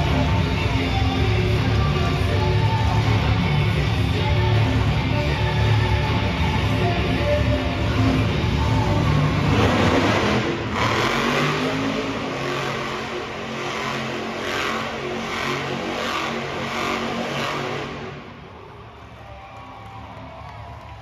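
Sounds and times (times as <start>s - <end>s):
truck engine revving loudly: 0.0s - 18.5s.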